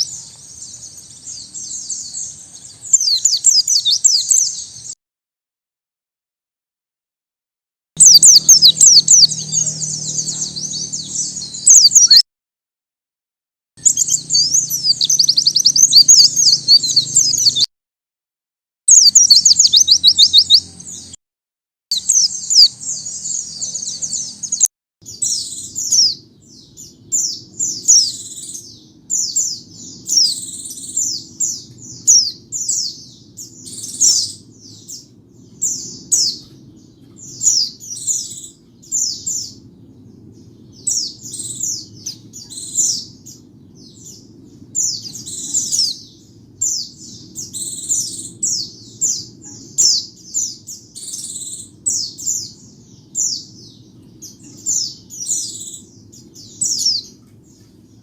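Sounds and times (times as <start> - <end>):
bird twittering chirps: 0.0 - 5.0, 8.0 - 12.2, 13.8 - 17.7, 18.9 - 21.2, 21.9 - 58.0.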